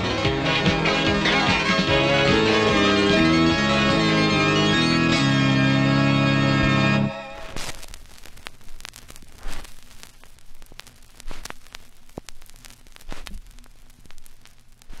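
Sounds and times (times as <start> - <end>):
crackling tape static: 0.0 - 15.0.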